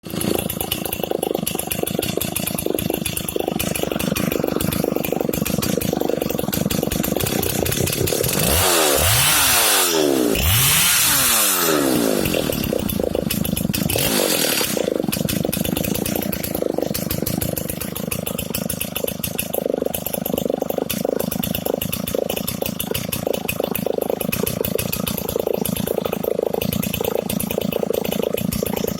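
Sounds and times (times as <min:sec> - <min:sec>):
chainsaw idling and revving: 0:00.0 - 0:28.9.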